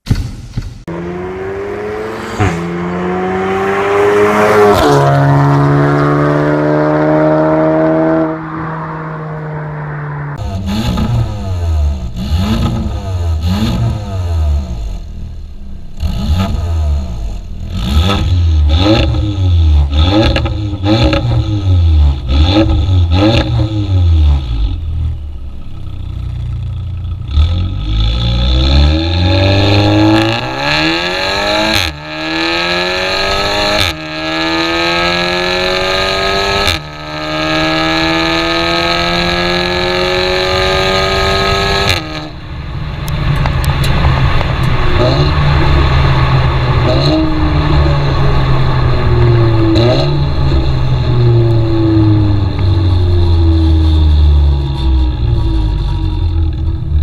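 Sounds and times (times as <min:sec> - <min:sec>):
car engine revving: 0:00.8 - 0:57.0
car accelerating away: 0:00.9 - 0:15.2, 0:15.9 - 0:25.3, 0:26.3 - 0:57.0.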